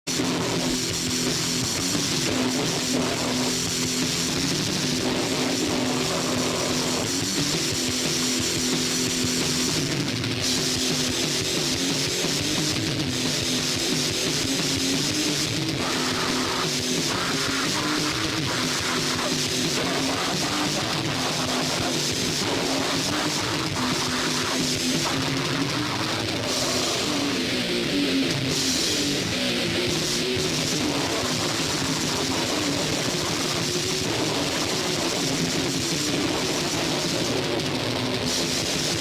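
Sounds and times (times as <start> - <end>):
heavy metal music: 0.0 - 39.0.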